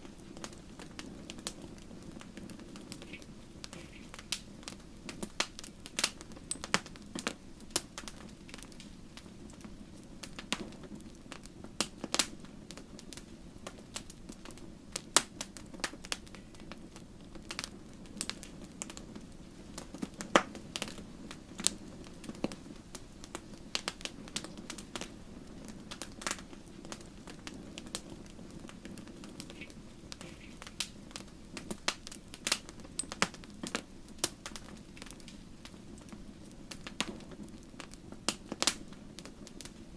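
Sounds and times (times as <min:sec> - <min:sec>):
fire pops and snaps: 0:00.0 - 0:39.9
low rush of flame: 0:00.0 - 0:39.9.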